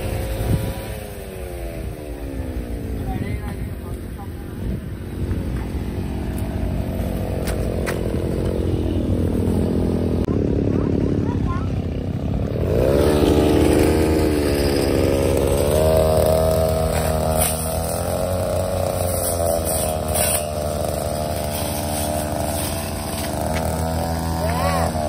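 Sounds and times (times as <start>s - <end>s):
brushcutter cutting grass: 0.0s - 25.0s.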